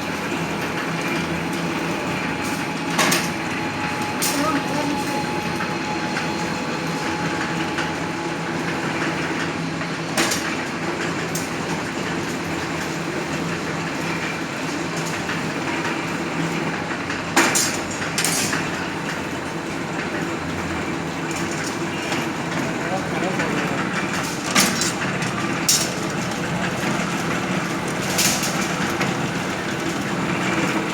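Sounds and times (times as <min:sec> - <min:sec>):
machine hum and clatter: 0:00.0 - 0:30.9.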